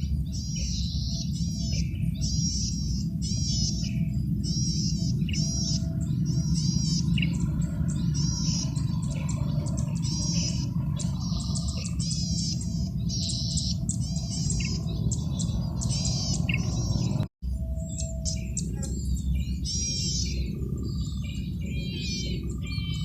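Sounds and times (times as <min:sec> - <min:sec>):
bird singing buzzy trills: 0:00.0 - 0:23.0
steady low rumble: 0:00.0 - 0:23.0.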